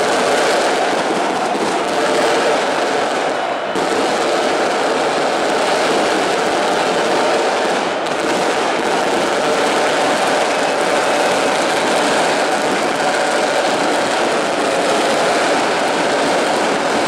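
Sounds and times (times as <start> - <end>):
stadium crowd cheering: 0.0 - 17.0.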